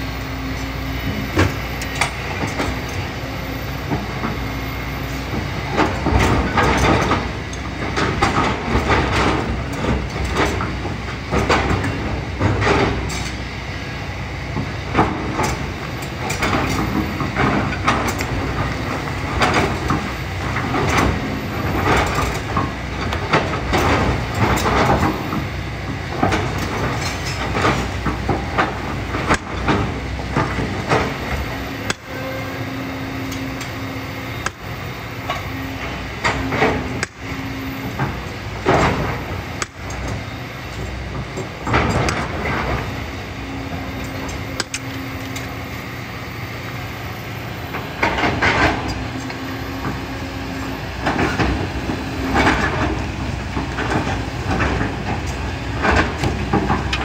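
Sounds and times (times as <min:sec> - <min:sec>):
excavator engine under load: 0:00.0 - 0:57.0.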